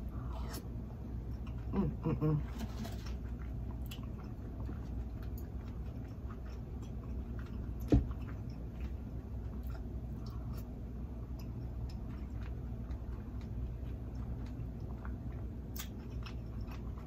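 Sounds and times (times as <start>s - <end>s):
low steady hum: 0.0s - 17.0s
person chewing soft food: 0.0s - 17.0s.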